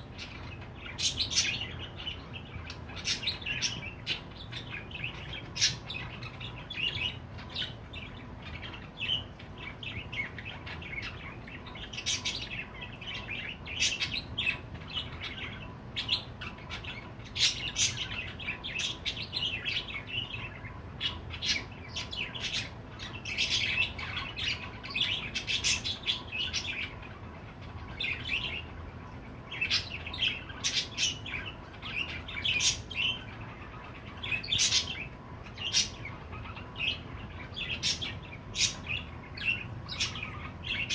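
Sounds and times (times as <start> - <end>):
budgerigar chirping and warbling: 0.0 - 28.9, 29.5 - 40.9.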